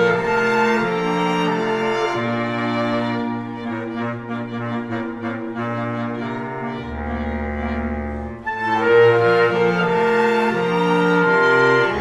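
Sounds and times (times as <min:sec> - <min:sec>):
slow chamber music: 0:00.0 - 0:12.0.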